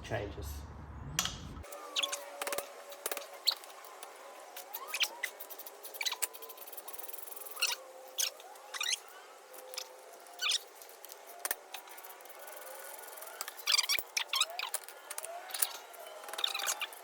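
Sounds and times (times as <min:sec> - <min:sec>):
hand tool squeaking and clicking: 0:01.7 - 0:17.0.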